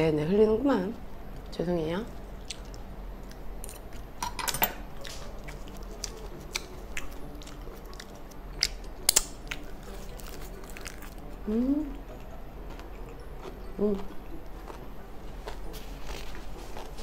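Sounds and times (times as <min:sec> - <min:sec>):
chewing food: 0:02.1 - 0:04.1, 0:04.9 - 0:17.0.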